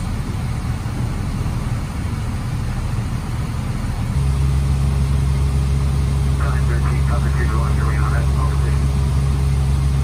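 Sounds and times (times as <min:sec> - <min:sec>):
fire engine rumbling: 0:00.0 - 0:10.0
steady hum: 0:00.0 - 0:10.0.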